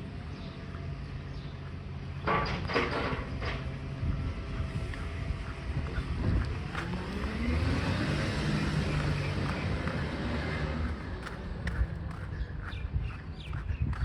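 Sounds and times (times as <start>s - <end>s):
garbage truck engine driving by: 0.8s - 13.7s.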